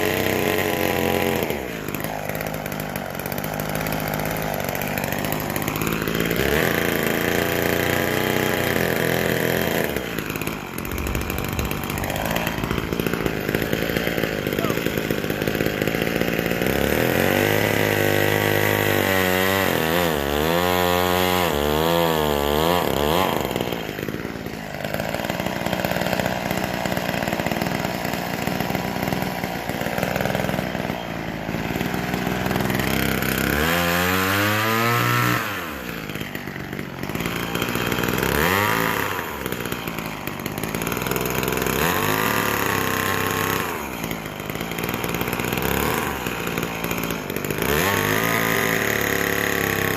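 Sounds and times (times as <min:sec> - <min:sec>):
chainsaw revving: 0:00.0 - 0:49.9.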